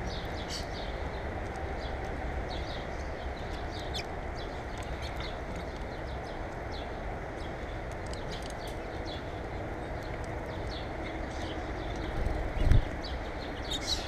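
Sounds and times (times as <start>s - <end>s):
small birds chirping: 0.0s - 14.0s
steady low background noise: 0.0s - 14.0s.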